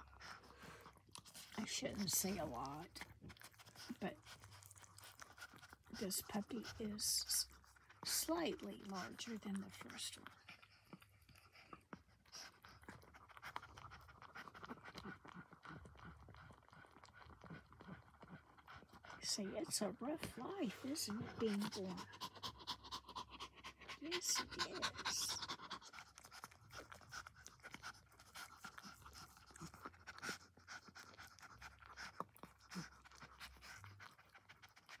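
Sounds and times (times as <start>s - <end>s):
dog panting: 0.0s - 35.0s
dog licking with wet clicks: 0.2s - 22.8s, 23.9s - 35.0s.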